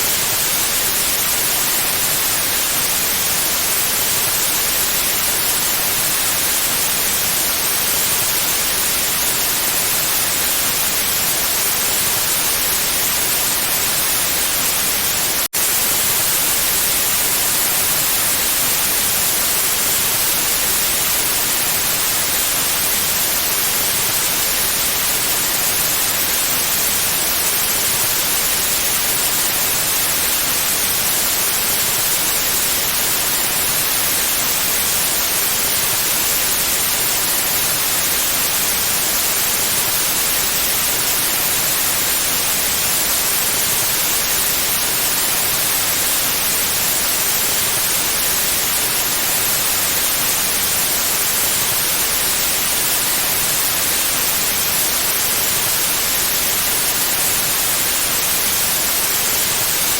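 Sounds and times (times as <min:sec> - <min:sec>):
synthetic white noise hiss: 0:00.0 - 0:59.9.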